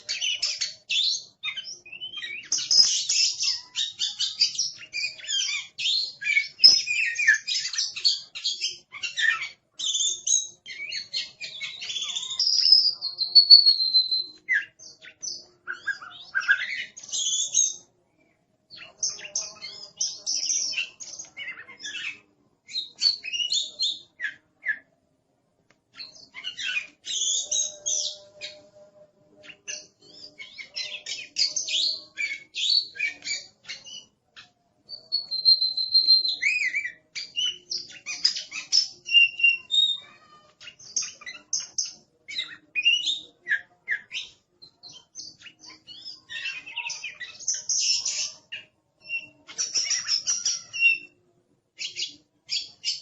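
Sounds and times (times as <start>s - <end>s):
bird singing varied song: 0.0s - 25.0s, 25.7s - 53.0s.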